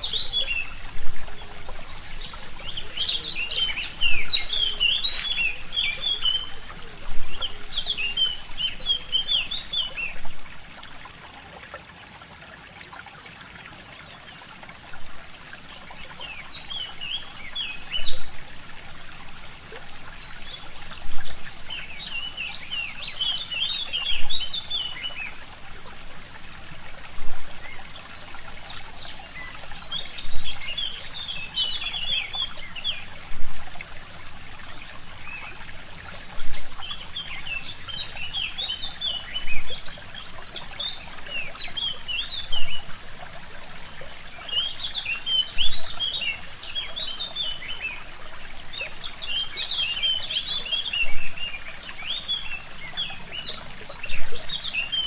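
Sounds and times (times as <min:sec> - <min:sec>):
songbirds twittering: 0:00.0 - 0:11.1, 0:14.4 - 0:55.0
stream trickling: 0:00.0 - 0:55.0.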